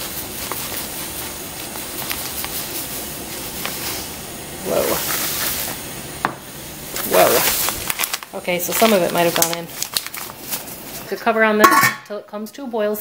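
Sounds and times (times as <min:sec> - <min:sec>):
cornmeal spilling: 0:00.0 - 0:11.1
broth hissing in a pot: 0:00.0 - 0:12.1.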